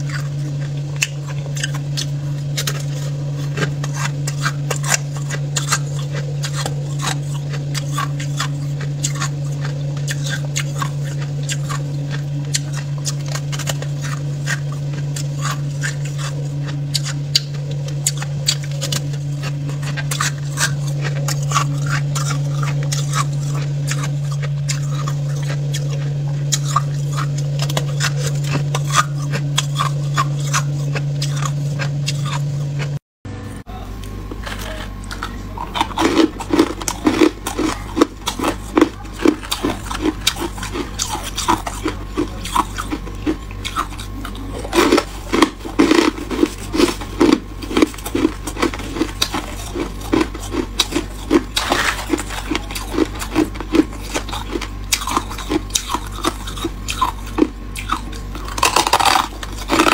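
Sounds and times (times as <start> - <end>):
frost crunching and crackling: 0.0 - 33.0, 34.0 - 59.9
steady low hum: 0.0 - 59.9.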